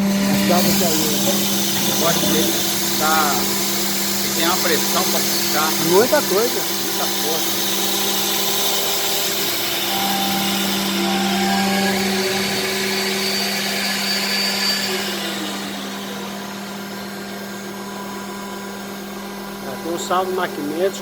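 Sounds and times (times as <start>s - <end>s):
vacuum loader motor: 0.0s - 21.0s.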